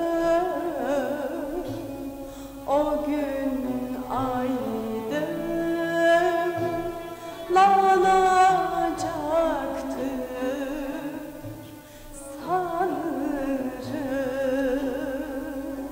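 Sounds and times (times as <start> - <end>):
instrumental accompaniment: 0.0 - 15.9
woman singing: 0.0 - 15.9.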